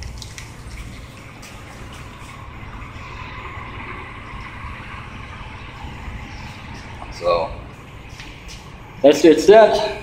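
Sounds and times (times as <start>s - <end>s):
truck engines idling: 0.0s - 10.0s.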